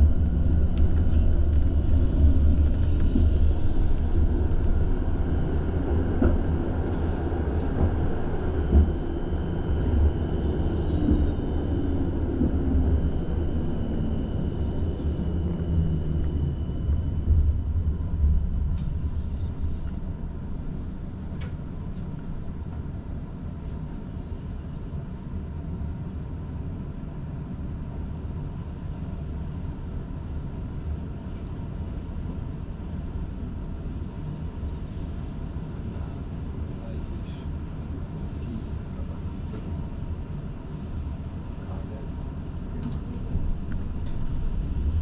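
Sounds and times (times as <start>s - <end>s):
tram rumbling on rails: 0.0s - 45.0s.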